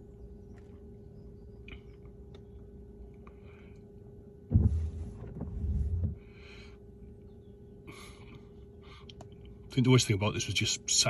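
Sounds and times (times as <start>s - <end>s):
faint steady hum: 0.0s - 11.0s
low rumbling microphone buffet: 0.0s - 11.0s.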